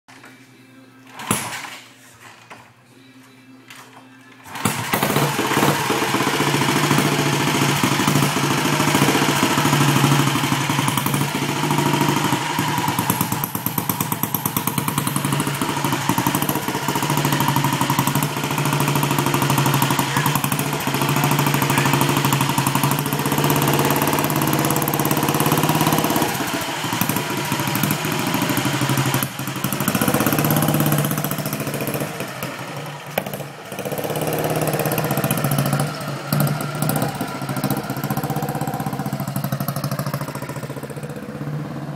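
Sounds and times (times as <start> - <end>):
single-cylinder engine running: 4.5 - 41.9.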